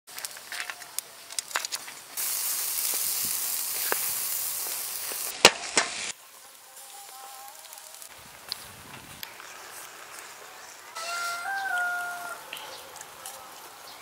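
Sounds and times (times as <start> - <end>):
snails sizzling on a grill: 0.1 - 14.0.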